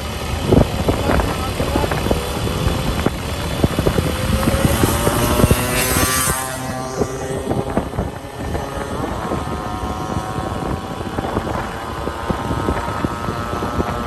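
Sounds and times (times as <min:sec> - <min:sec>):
motor running: 0:00.0 - 0:14.0
wind on microphone: 0:00.0 - 0:14.0.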